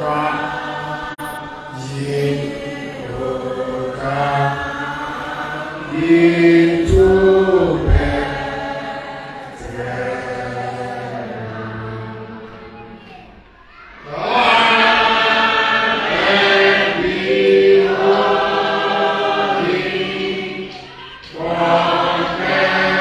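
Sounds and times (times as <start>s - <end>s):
group singing slow church song: 0.0s - 23.0s.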